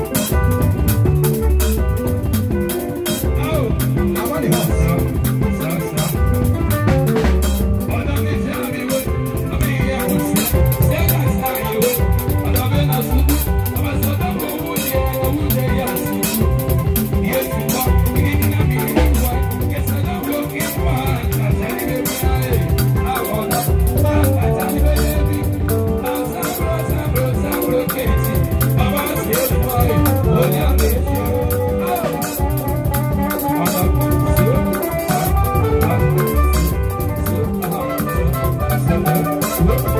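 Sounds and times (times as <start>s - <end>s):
drum kit with cymbals: 0.0s - 39.9s
electric bass guitar: 0.0s - 39.9s
keyboard playing: 0.0s - 39.9s.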